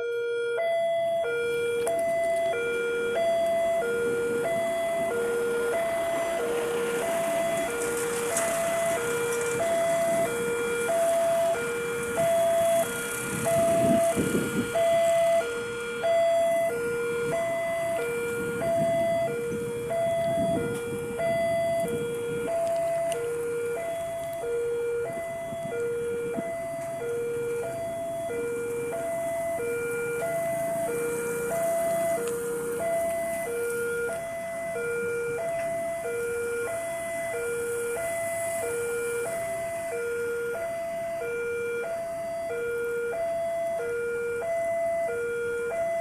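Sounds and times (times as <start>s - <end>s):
level crossing two-tone alarm: 0.0s - 46.0s.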